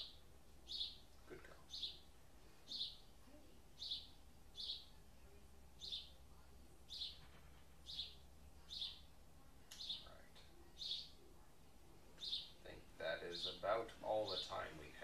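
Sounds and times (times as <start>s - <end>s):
small bird chirping: 0.0s - 11.5s, 12.1s - 14.7s
faint low hum: 0.0s - 15.0s.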